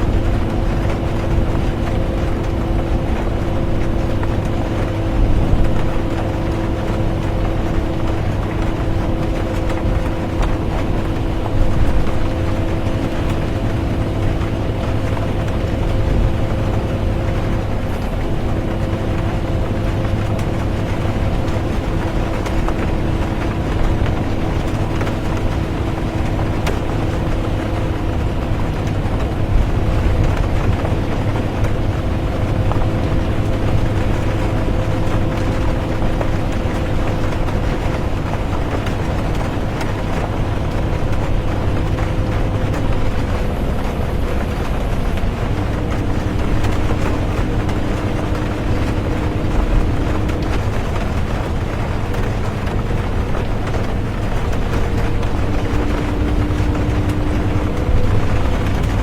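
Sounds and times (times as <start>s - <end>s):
bus engine and road rumble: 0.0s - 59.0s
constant tonal whine: 0.0s - 59.0s.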